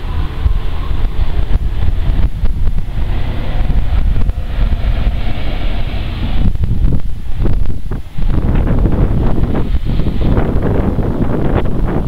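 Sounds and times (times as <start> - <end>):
train rumbling on track: 0.0 - 12.0
wind buffeting microphone: 0.0 - 12.0.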